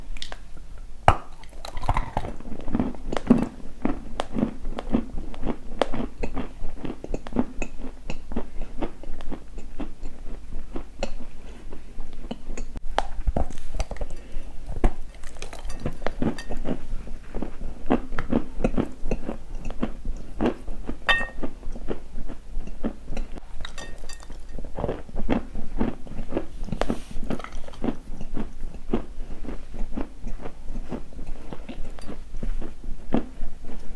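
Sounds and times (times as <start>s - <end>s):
person chewing something crunchy: 1.2s - 33.9s.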